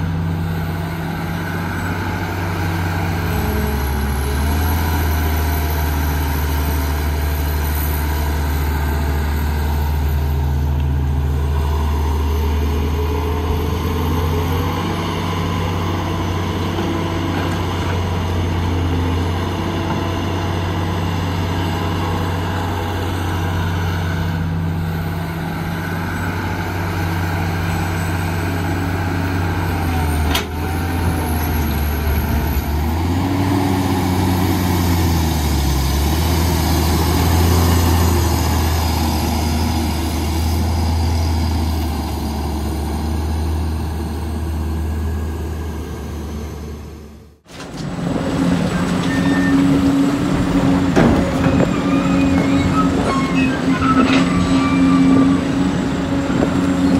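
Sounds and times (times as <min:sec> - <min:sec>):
diesel engine of heavy machinery: 0:00.0 - 0:56.9.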